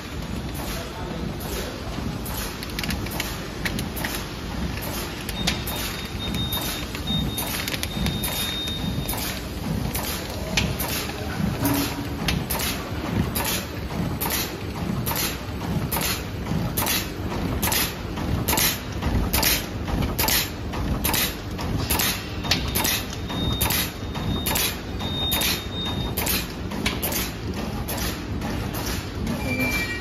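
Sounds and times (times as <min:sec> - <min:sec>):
mechanical clatter: 0:00.0 - 0:30.0.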